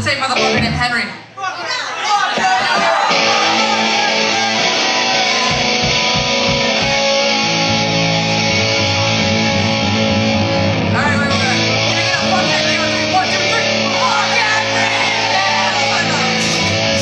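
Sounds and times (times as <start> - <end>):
electric guitar: 0.0 - 0.8, 3.0 - 17.0
bass guitar: 0.0 - 1.1, 3.0 - 17.0
drums: 2.3 - 17.0.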